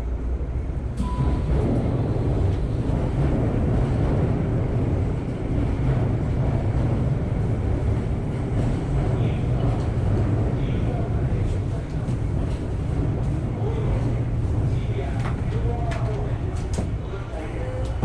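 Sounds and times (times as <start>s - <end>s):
train standing rumble: 0.0s - 18.0s.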